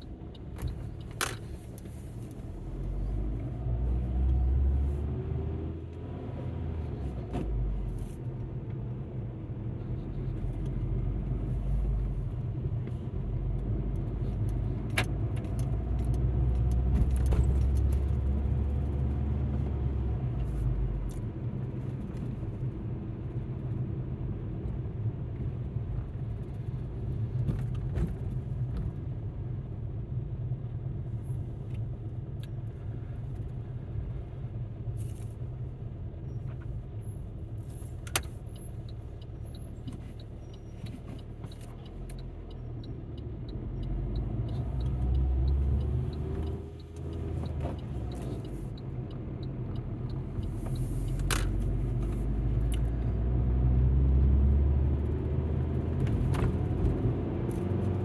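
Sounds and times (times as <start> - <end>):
road and engine rumble in car: 0.0 - 58.0.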